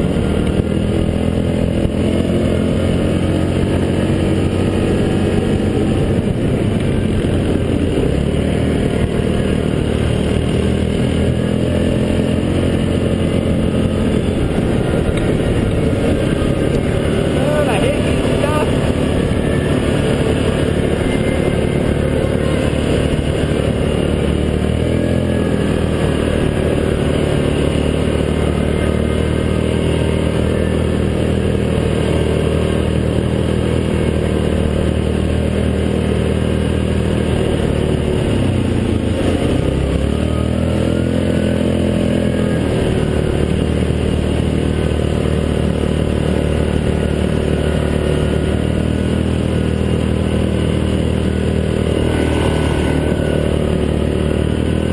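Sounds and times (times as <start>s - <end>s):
atv engine running: 0.0s - 54.9s.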